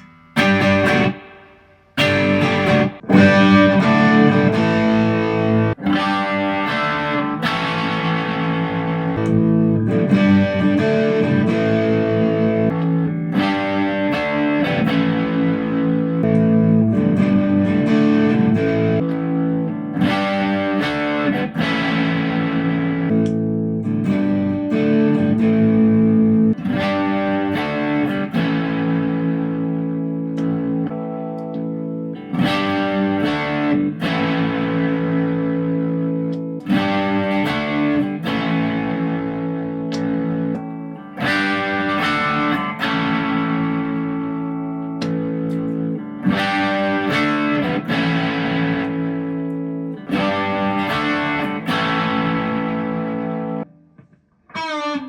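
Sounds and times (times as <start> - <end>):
electric guitar chords ringing: 0.0 - 55.0.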